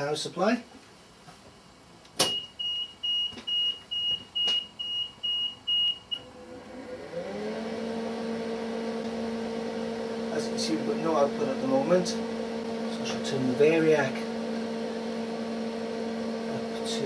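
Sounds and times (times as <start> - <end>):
low electrical hum: 0.0 - 7.0, 8.6 - 17.0.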